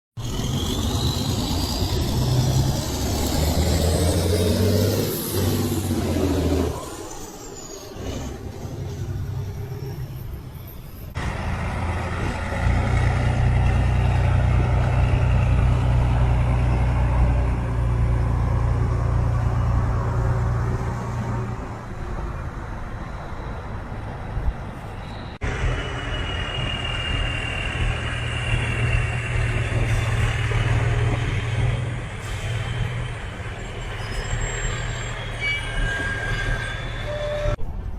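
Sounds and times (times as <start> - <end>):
heavy truck engines rumbling: 0.2 - 37.9.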